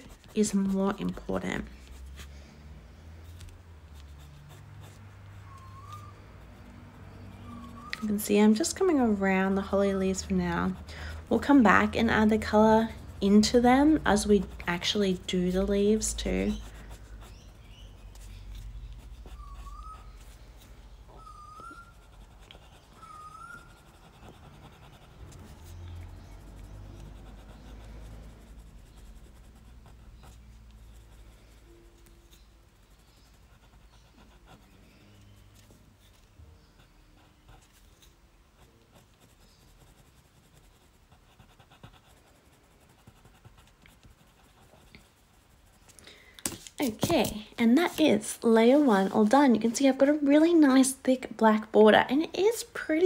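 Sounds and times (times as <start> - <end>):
pencil scratching on paper: 0.0 - 2.5, 3.2 - 50.3.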